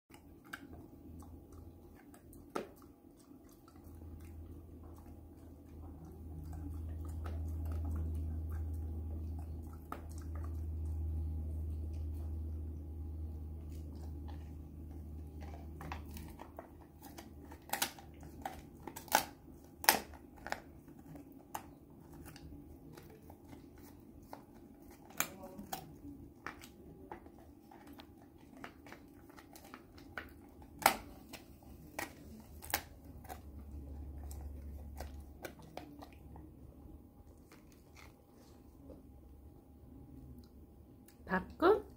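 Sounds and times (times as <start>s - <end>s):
puppy crunching chew: 0.1s - 39.4s.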